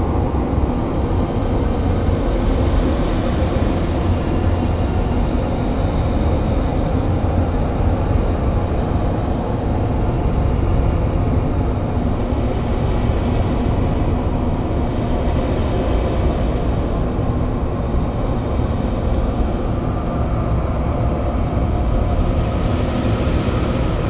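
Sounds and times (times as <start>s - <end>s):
dense low drone: 0.0s - 24.0s.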